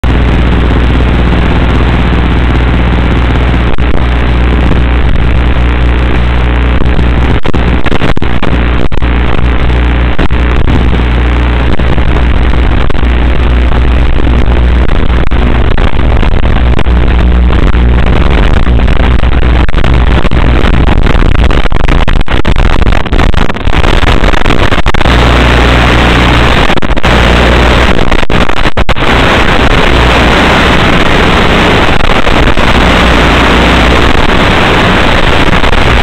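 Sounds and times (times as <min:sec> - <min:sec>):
radio static hiss and hum: 0:00.0 - 0:36.0.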